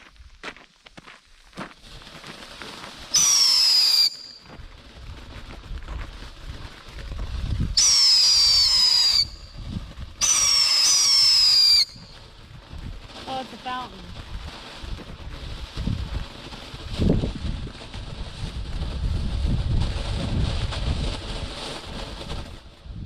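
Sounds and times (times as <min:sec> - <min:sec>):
whistling fireworks: 0:01.9 - 0:23.0.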